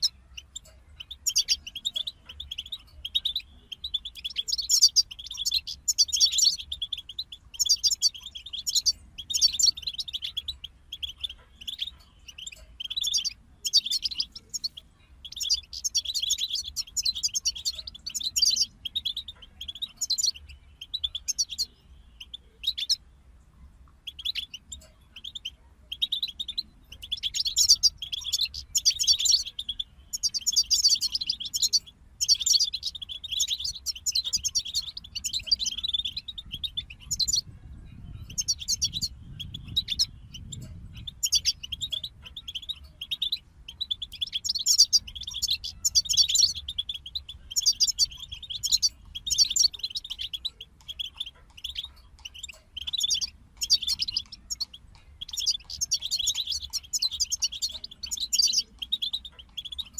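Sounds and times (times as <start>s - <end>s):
finch twittering song: 0.0s - 59.9s.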